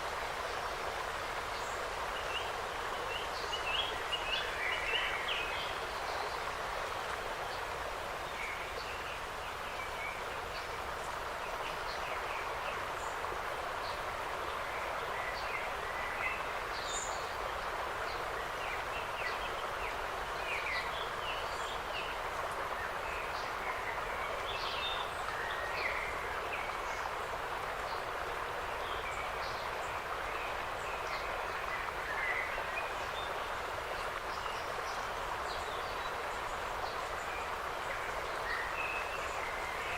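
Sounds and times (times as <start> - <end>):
wind through trees: 0.0 - 39.9.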